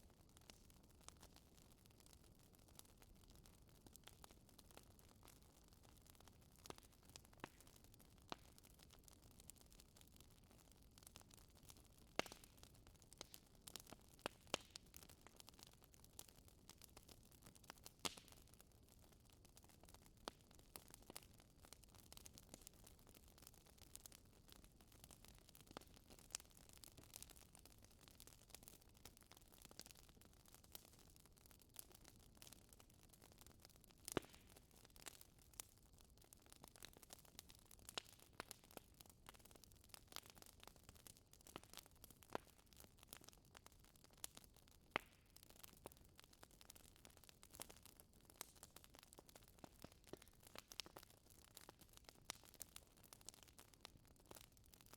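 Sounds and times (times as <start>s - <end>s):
wood fire crackling: 0.1s - 54.9s.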